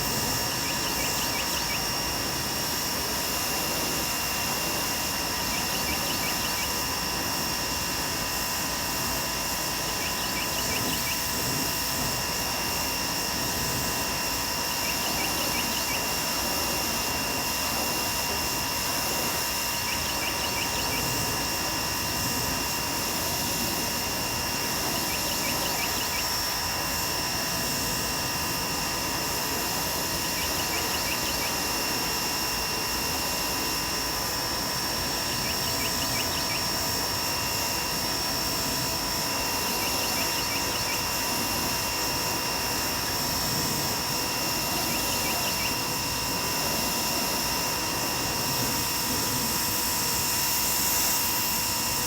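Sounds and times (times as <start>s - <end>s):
pressure washer whine: 0.0s - 52.0s.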